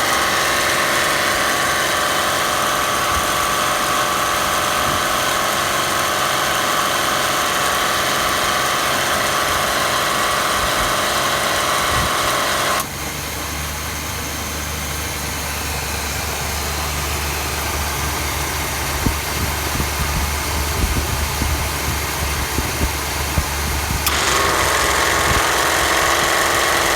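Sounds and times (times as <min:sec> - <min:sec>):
air conditioning compressor running: 0:00.0 - 0:26.9
engine idling: 0:00.0 - 0:26.9.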